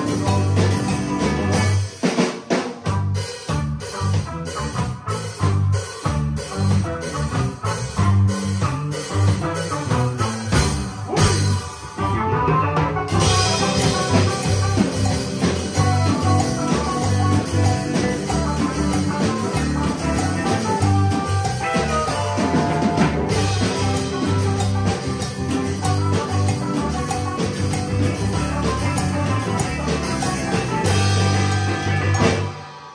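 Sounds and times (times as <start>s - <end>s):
bass guitar: 0.0s - 32.9s
drum kit: 0.0s - 32.9s
electric guitar: 0.0s - 32.9s.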